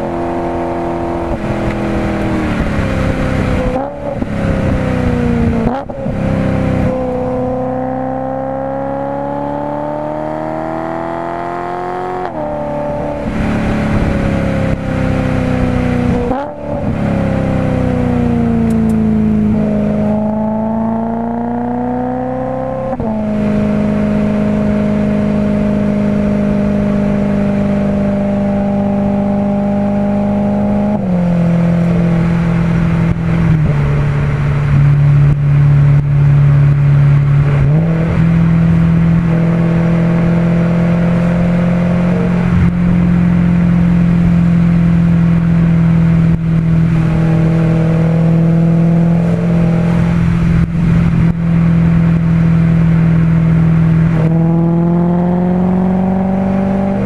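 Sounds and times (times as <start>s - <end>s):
car engine and exhaust passing: 0.0s - 57.0s.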